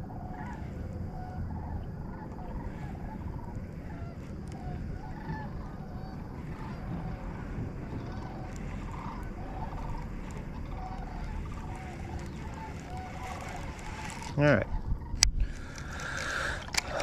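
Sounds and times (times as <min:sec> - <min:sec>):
low rumble: 0:00.0 - 0:17.0
waterfowl calling: 0:00.0 - 0:17.0.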